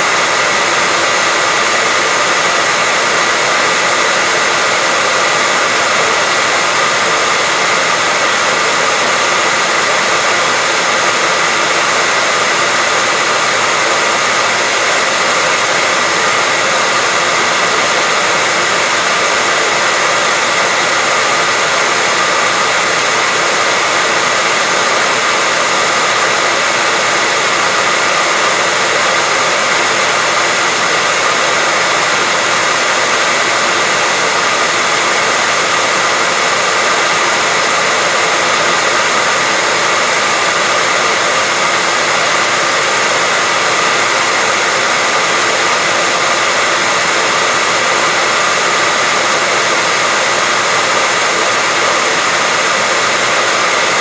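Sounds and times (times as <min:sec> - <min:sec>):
hair dryer whooshing: 0:00.0 - 0:54.0.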